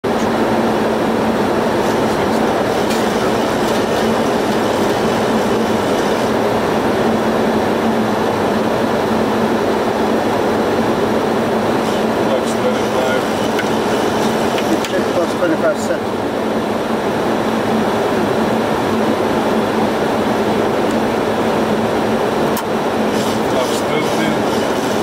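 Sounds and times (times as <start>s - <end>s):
constant low hum: 0.0s - 25.0s.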